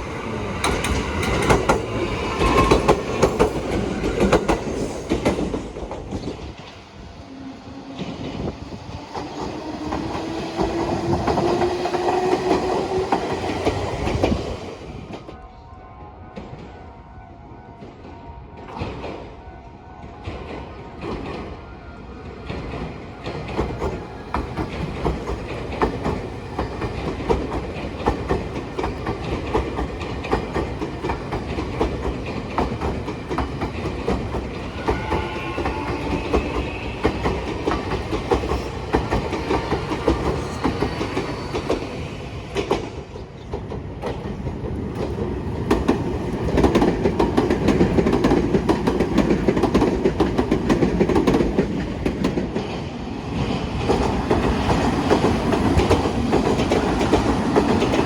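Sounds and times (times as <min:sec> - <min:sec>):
electric train wheels clattering: 0:00.0 - 0:15.4, 0:20.0 - 0:58.0.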